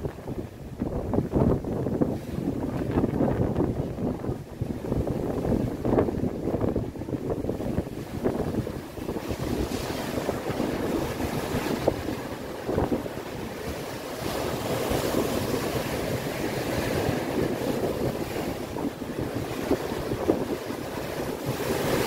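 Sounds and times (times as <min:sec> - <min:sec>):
sea surf washing on shore: 0:00.0 - 0:22.0
wind buffeting microphone: 0:00.0 - 0:22.0.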